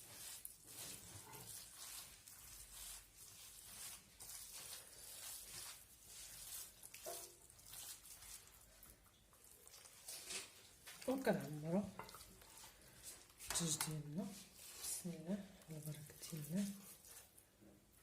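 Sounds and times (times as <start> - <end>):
wet squelching of mixing: 0.0 - 18.0.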